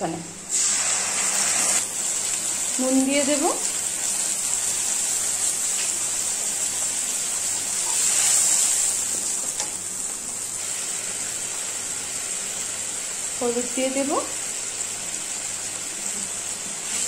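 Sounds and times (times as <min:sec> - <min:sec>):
onions sizzling in oil: 0:00.4 - 0:17.0.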